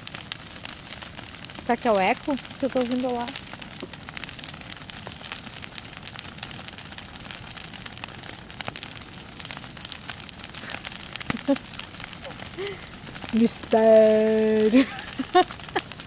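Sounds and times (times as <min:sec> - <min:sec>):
bonfire crackling and popping: 0:00.0 - 0:16.0.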